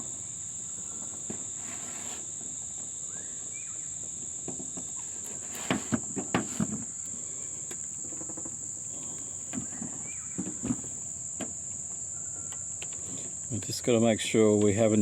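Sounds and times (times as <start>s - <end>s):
cricket trill: 0.0s - 15.0s.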